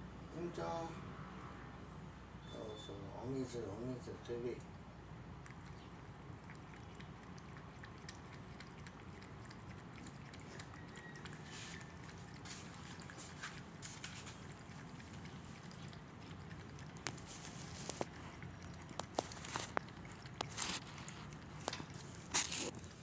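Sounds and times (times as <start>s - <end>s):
cat lapping water: 3.7s - 23.0s.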